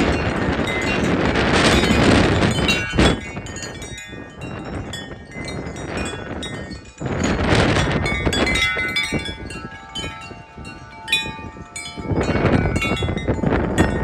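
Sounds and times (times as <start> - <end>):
wind buffeting microphone: 0.0 - 14.0
wind chimes ringing: 0.0 - 14.0.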